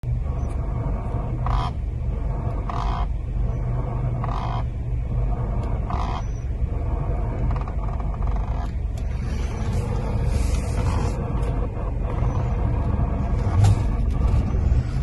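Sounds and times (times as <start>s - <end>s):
car engine idling: 0.0s - 15.0s
rubbery steering squeak: 0.3s - 1.8s, 2.4s - 4.7s, 5.4s - 6.6s, 7.2s - 15.0s.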